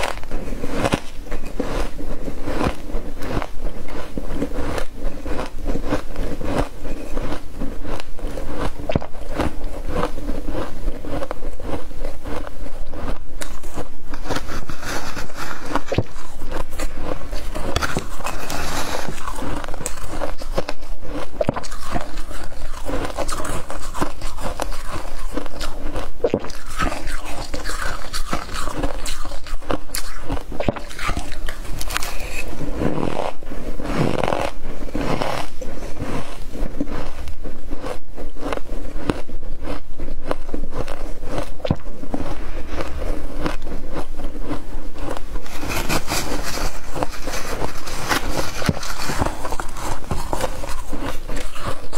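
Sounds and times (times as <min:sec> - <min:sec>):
frost crunching between teeth: 0:00.0 - 0:51.9.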